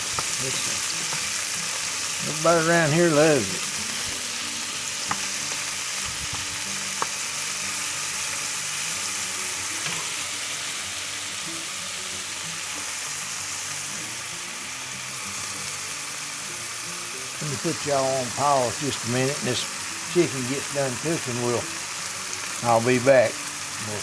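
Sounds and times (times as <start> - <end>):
chicken frying sizzle: 0.0 - 24.0.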